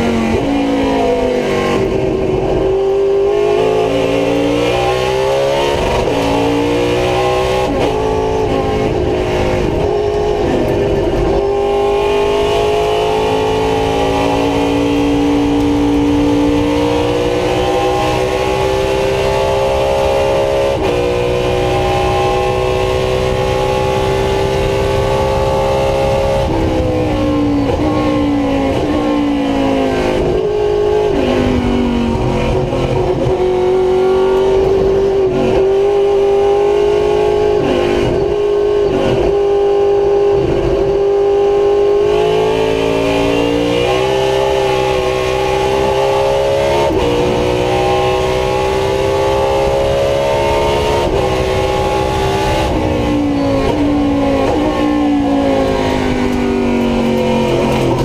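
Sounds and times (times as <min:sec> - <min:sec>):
race car engine with gear shifts: 0:00.0 - 0:58.0.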